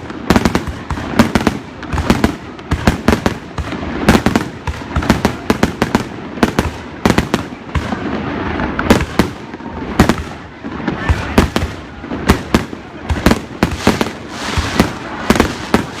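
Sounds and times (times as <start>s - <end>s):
fireworks bangs: 0.0s - 16.0s
fireworks crackle and rumble: 0.0s - 16.0s.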